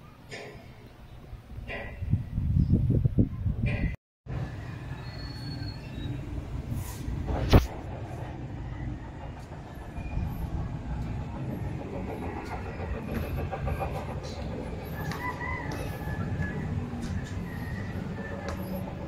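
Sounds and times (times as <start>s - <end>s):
low outdoor rumble: 3.1s - 19.0s.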